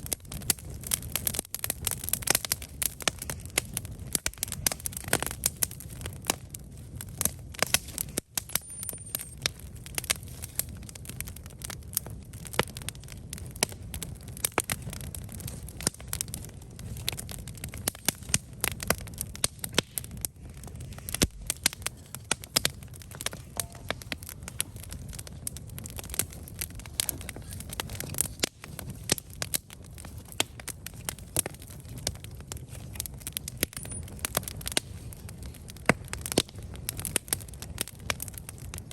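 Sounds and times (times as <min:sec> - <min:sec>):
campfire crackling and popping: 0:00.0 - 0:38.9
low rumble of flame: 0:00.0 - 0:38.9.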